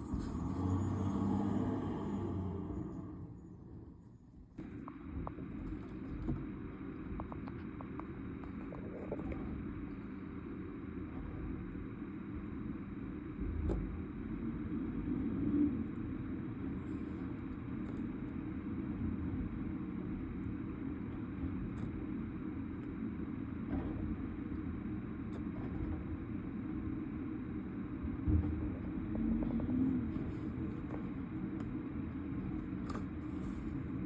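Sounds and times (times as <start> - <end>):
vehicle engine rumbling: 0.0 - 34.0.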